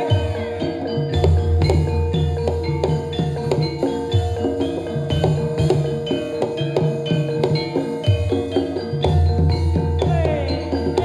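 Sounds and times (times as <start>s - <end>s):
gongs and metallophones ringing: 0.0s - 11.0s.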